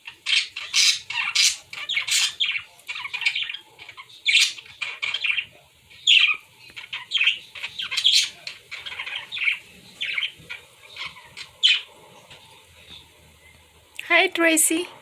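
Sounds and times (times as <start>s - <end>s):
pet birds squawking and chirping: 0.0s - 13.6s.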